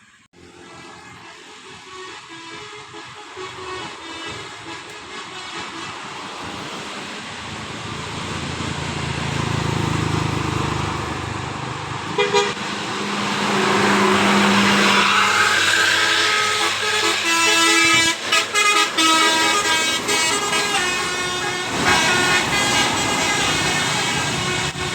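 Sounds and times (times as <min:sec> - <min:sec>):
multi-tone bus horn tune: 0:00.0 - 0:07.8, 0:08.6 - 0:24.9
bus engine and road noise: 0:00.0 - 0:24.9.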